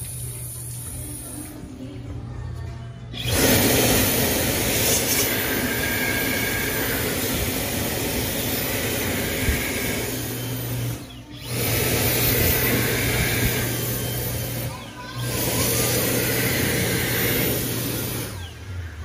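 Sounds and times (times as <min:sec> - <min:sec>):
hand dryer blowing air: 0:03.2 - 0:18.7.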